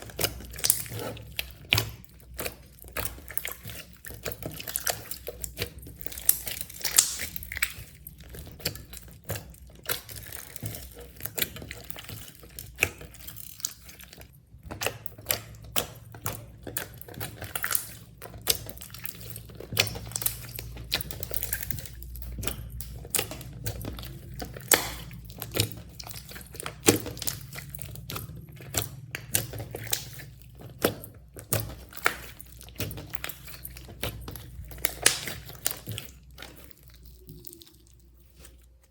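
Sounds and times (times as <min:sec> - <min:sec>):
slime kneaded by hand: 0:00.0 - 0:38.9.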